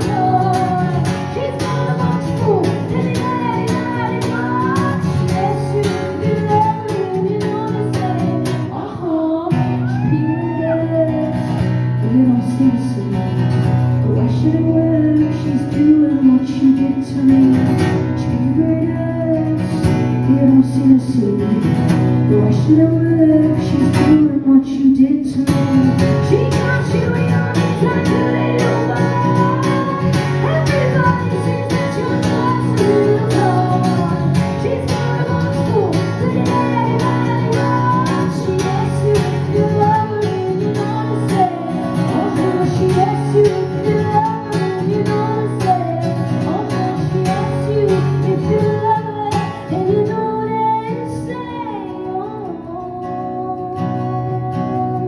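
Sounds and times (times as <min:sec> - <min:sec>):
guitar: 0:00.0 - 0:55.0
woman singing: 0:00.0 - 0:55.0.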